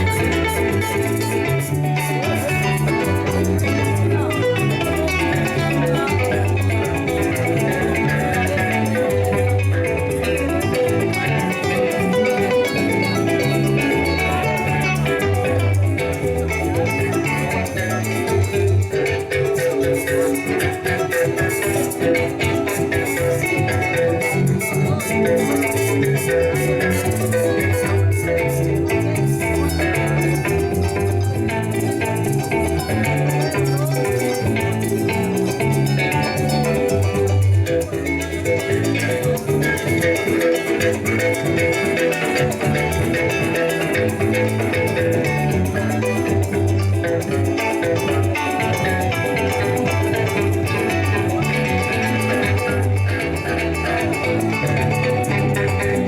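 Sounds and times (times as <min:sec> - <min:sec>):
maracas shaking: 0:00.0 - 0:56.0
strummed and plucked strings: 0:00.0 - 0:56.0.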